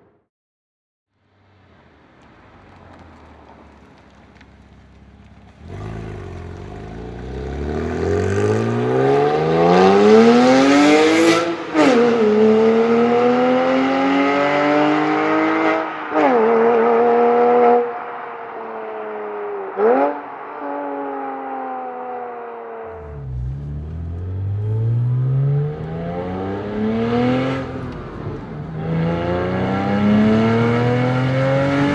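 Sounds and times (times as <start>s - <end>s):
car engine accelerating hard: 2.2s - 31.9s.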